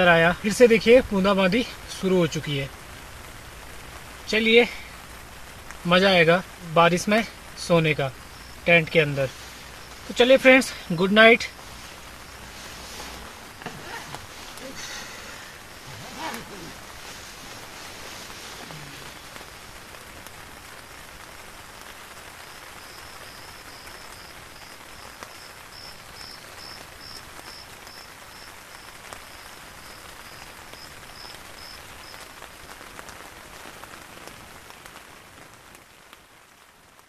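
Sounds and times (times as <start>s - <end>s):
drizzle pattering on tent: 0.0s - 37.0s.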